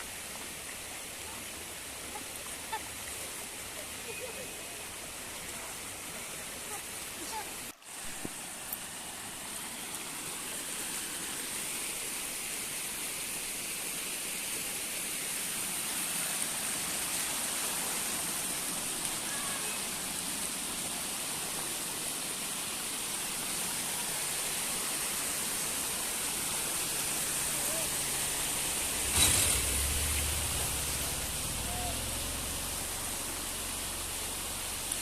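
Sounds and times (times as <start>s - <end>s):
flood water rushing: 0.0s - 35.0s.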